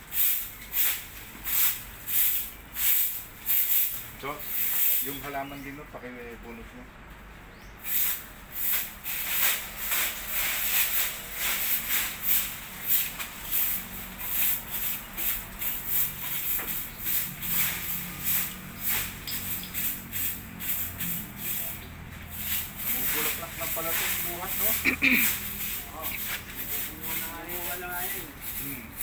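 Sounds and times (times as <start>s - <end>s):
broom sweeping stone: 0.1s - 5.4s, 7.9s - 29.0s.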